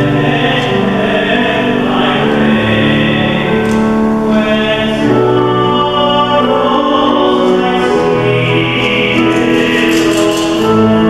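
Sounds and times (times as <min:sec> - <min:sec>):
choir singing long notes: 0:00.0 - 0:11.0
sustained organ chords: 0:00.0 - 0:11.0.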